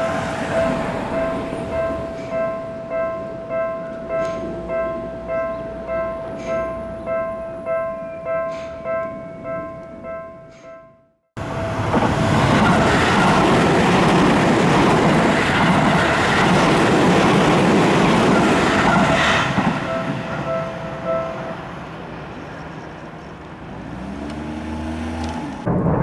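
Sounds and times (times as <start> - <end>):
train passing: 0.0 - 10.8, 11.4 - 26.0
crossing warning bell ringing: 0.0 - 22.4.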